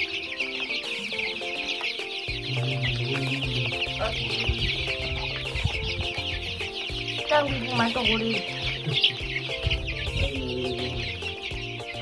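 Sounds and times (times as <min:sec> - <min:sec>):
background music with bass: 0:00.0 - 0:12.0
chicks cheeping: 0:00.0 - 0:12.0.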